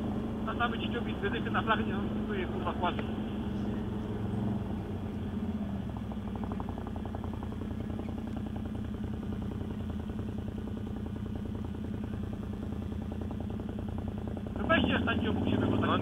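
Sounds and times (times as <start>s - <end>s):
quad engine running steadily: 0.0s - 16.0s.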